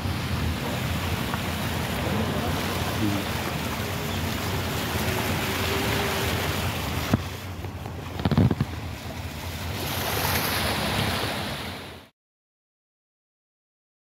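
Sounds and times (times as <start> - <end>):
floodwater flowing across road: 0.0 - 12.1.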